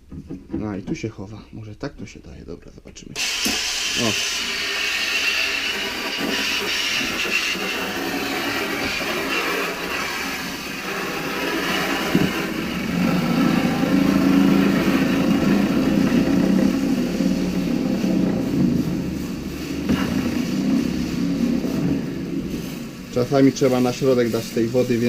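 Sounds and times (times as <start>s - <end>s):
spraying water hiss: 3.2s - 25.0s
paint roller spinning whir: 3.4s - 25.0s.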